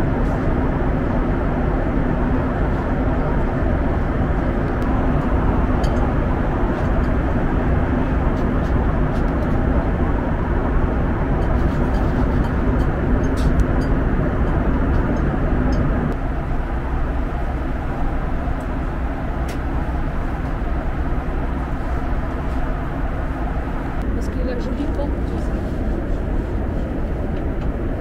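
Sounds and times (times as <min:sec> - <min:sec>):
aircraft engine hum: 0:00.0 - 0:28.0
rush of air in cabin: 0:00.0 - 0:28.0.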